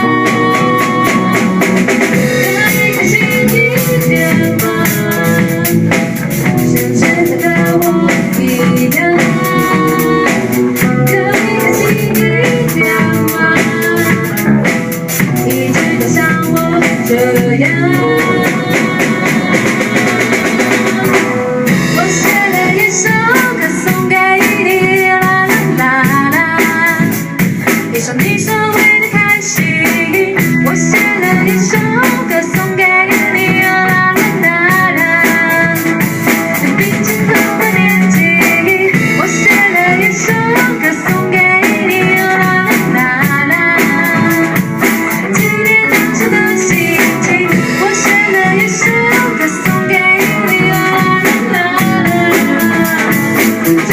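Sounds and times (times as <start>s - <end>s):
band playing pop instrumental: 0.0s - 53.9s.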